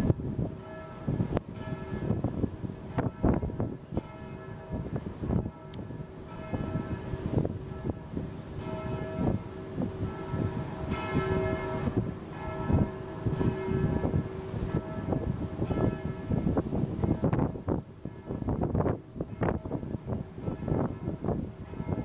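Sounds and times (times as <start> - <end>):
low rumbling noise: 0.0 - 22.0
church bells ringing: 0.4 - 22.0.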